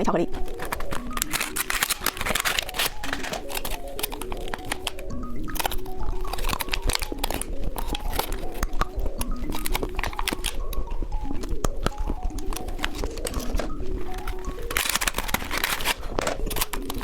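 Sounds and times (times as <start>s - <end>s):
background music: 0.0s - 17.0s
candy wrapper crinkling: 0.0s - 17.0s.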